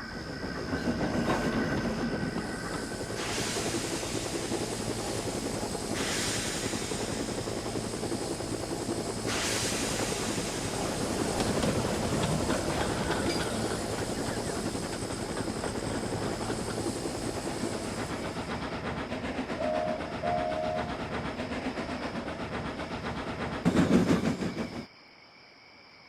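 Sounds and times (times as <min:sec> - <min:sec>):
steam hiss: 0:00.0 - 0:24.9
steam locomotive running: 0:00.0 - 0:24.9.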